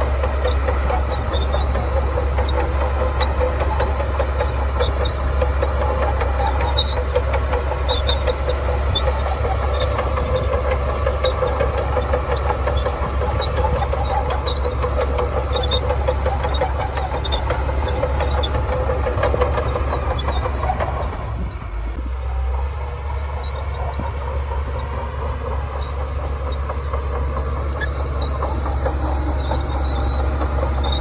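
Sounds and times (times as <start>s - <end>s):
steel tracks clattering: 0.0s - 22.0s, 22.6s - 31.0s
bulldozer diesel engine: 0.0s - 31.0s.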